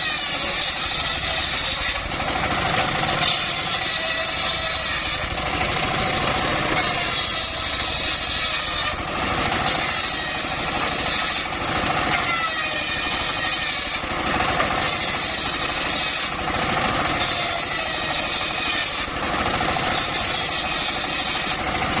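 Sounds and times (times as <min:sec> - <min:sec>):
circular sawmill running: 0:00.0 - 0:22.0.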